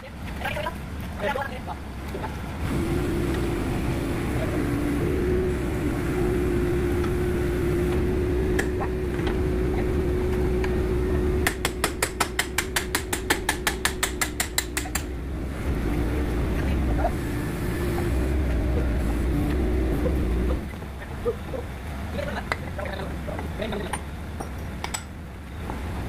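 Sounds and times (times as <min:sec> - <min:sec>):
engine idling hum: 0:00.0 - 0:26.0.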